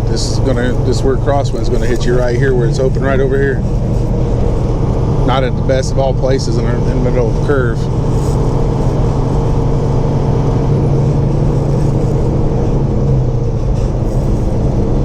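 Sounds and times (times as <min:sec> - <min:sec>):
truck engine and road hum: 0:00.0 - 0:15.0.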